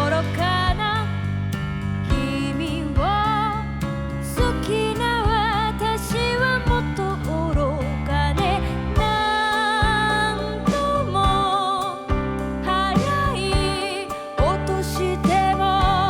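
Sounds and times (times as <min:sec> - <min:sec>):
bass and drum hits: 0:00.0 - 0:16.0.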